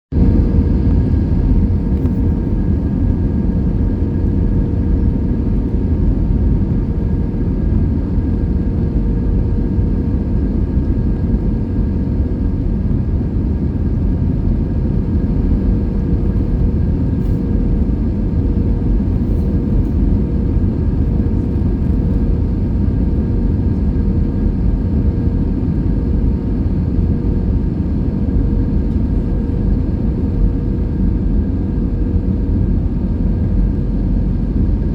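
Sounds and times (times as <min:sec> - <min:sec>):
airliner engines low rumble: 0:00.1 - 0:34.9
whine of steady tones: 0:00.2 - 0:34.9.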